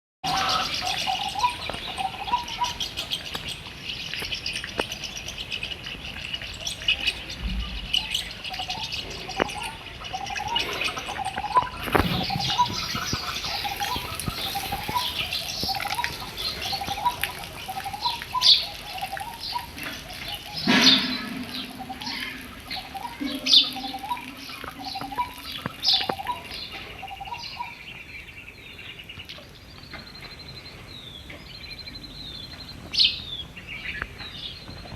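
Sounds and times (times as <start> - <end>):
birds chirping and trilling: 0.2 - 34.9
low repeated bird call: 0.2 - 34.9.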